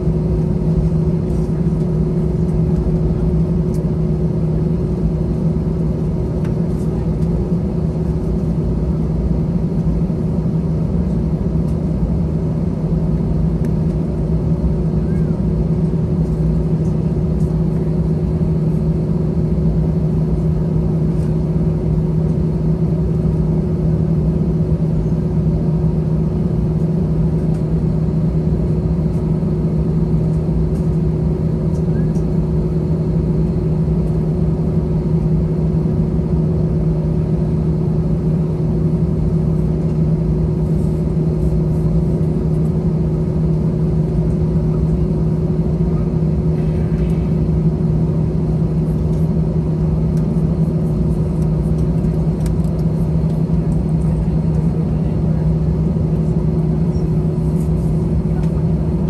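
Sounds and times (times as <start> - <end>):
jet engines low rumble: 0.0 - 59.0.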